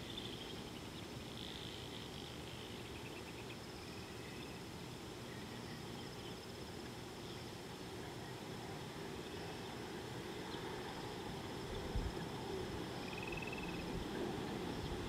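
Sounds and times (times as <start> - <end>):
high-pitched insect trill: 0.0 - 7.5, 9.2 - 15.0
low background hiss: 0.0 - 15.0.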